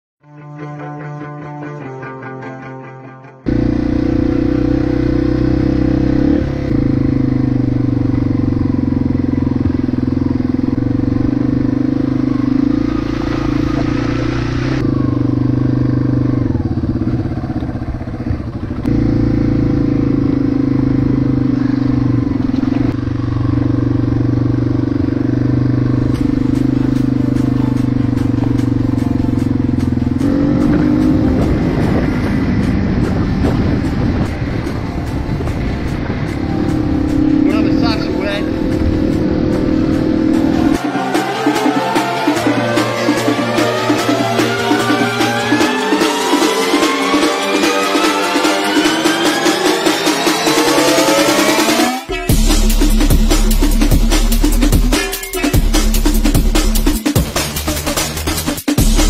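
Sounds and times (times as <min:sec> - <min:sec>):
motorcycle engine running: 0:03.4 - 0:59.0.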